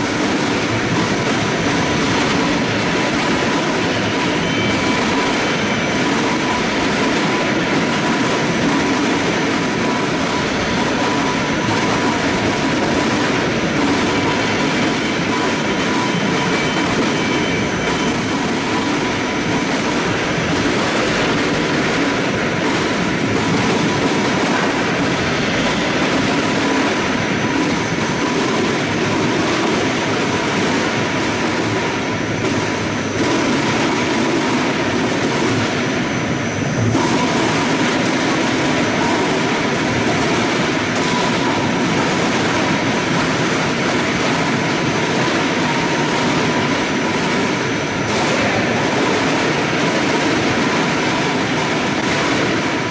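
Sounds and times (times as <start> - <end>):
machinery running with faint whine: 0.0 - 52.9.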